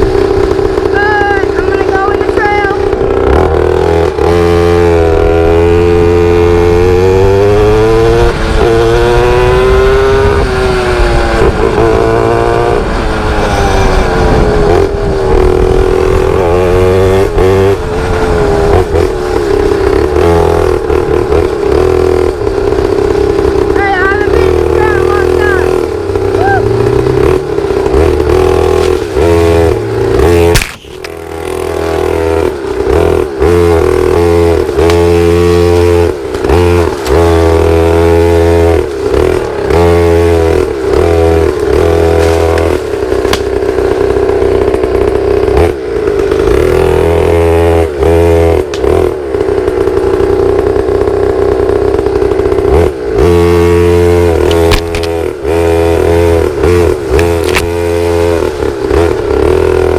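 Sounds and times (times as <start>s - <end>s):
pit bike engine revving: 0.0s - 59.9s.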